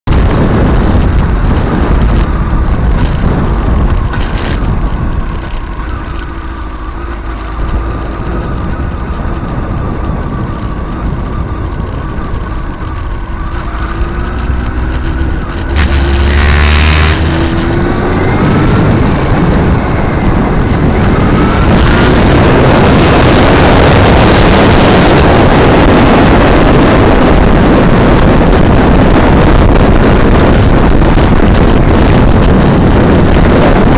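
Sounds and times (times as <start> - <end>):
wind rushing over microphone: 0.0 - 33.9
motorcycle engine running: 0.1 - 33.9.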